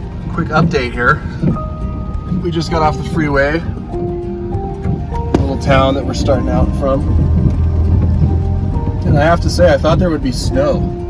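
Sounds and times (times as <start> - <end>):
background music with held notes: 0.0 - 11.0
car driving rumble: 0.0 - 11.0.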